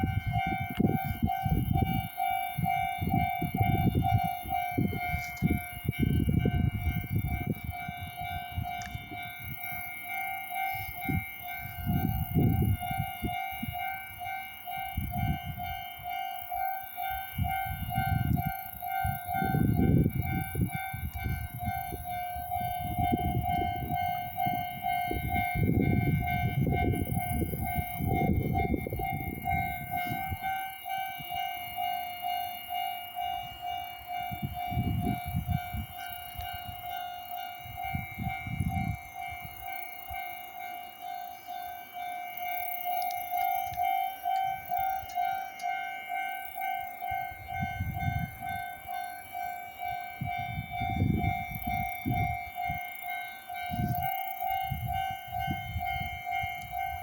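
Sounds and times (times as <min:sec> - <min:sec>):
level crossing warning bell: 0:00.0 - 0:57.0.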